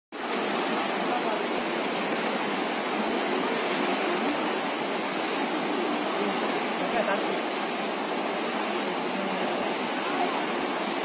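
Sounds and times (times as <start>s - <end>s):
fast-flowing river rushing: 0.2s - 11.0s.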